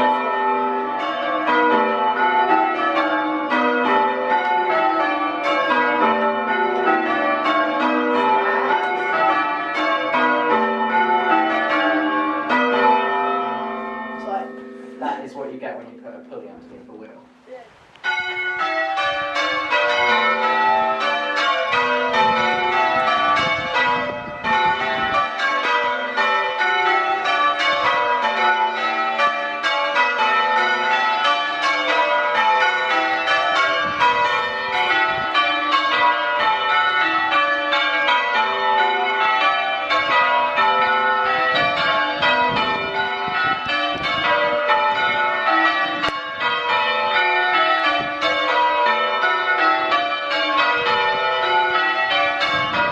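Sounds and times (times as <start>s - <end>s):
church bells change-ringing: 0.0s - 17.4s, 18.0s - 52.9s.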